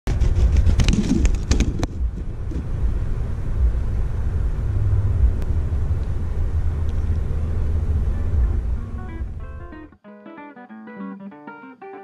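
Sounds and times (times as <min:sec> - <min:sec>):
low outdoor rumble: 0:00.1 - 0:10.0.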